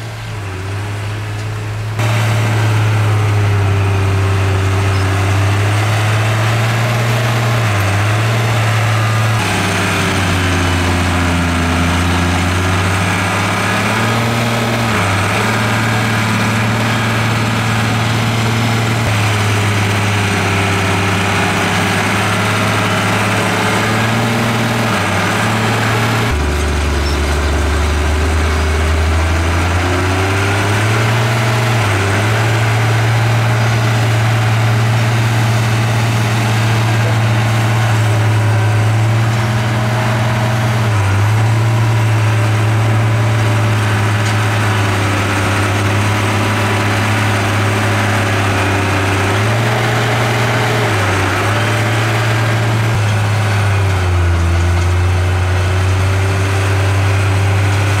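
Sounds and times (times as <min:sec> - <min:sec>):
diesel engine of earthmoving machine: 0:00.0 - 0:58.0.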